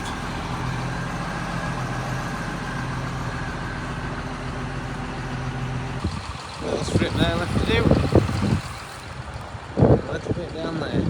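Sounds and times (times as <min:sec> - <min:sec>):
combine harvester engine drone: 0:00.0 - 0:11.0.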